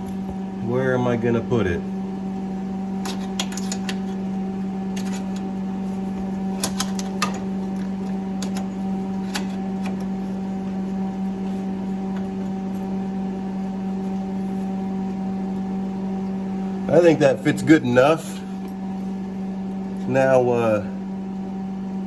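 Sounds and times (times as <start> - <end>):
welder electrical hum: 0.0 - 22.0.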